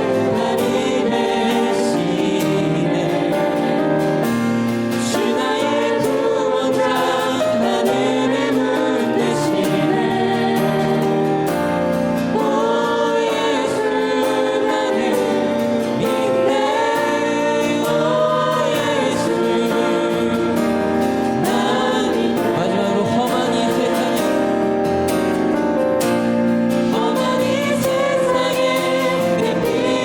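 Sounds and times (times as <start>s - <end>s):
group singing worship song: 0.0s - 30.0s
sustained musical accompaniment: 0.0s - 30.0s.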